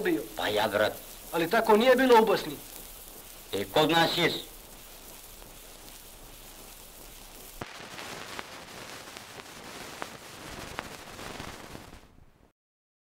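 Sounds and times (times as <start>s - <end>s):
record clicks and crackles: 0.0s - 12.5s
record surface hiss: 0.0s - 12.5s.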